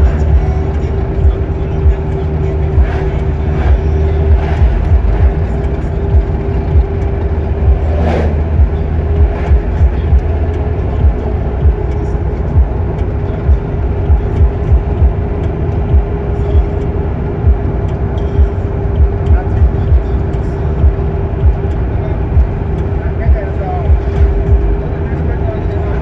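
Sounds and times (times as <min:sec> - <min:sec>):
wind buffeting microphone: 0:00.0 - 0:25.0
vehicle road and engine noise: 0:00.0 - 0:26.0.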